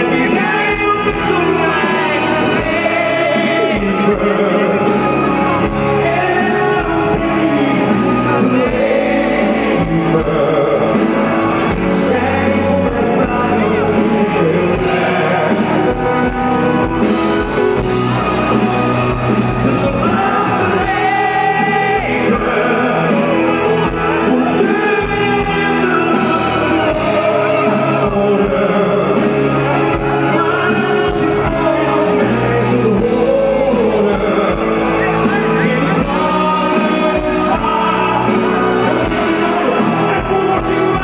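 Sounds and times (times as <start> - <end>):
man singing live: 0.0 - 41.0
piano: 0.0 - 41.0.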